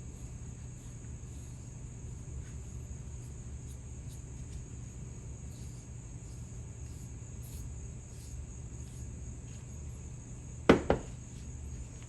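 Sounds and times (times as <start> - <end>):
low workshop hum: 0.0 - 12.0.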